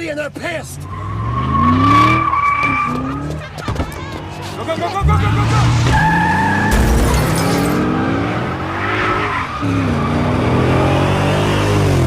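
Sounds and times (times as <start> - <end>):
car engine accelerating: 0.8 - 12.0.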